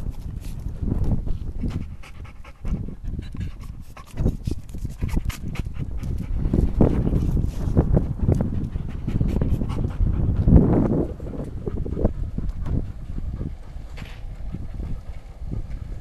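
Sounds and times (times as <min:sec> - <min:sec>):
dog panting: 0:01.6 - 0:16.0.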